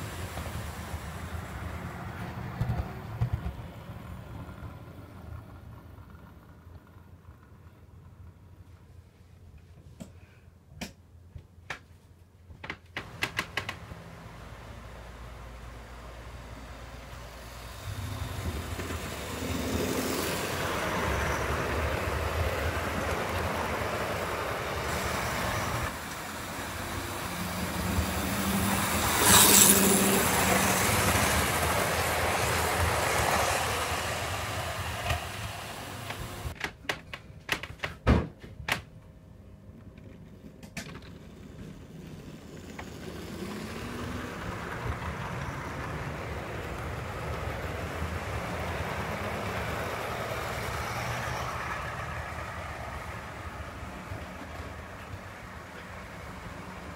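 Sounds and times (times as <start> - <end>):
model train running on track: 0.0 - 8.6, 13.0 - 36.6, 40.9 - 56.9.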